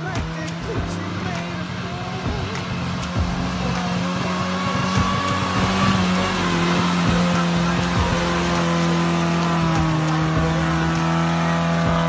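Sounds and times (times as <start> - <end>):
engine at high revs: 0.0 - 12.0.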